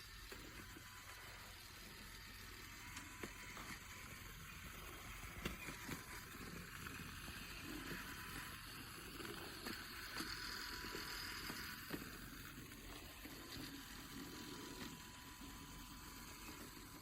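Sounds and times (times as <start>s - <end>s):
toy train motor whir: 0.0s - 17.0s.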